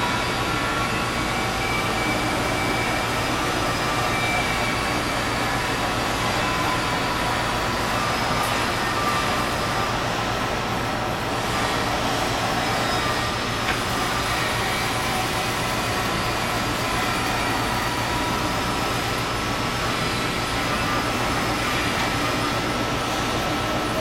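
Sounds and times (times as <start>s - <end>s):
faint constant whines: 0.0s - 24.0s
lathe mechanical hum: 0.0s - 24.0s.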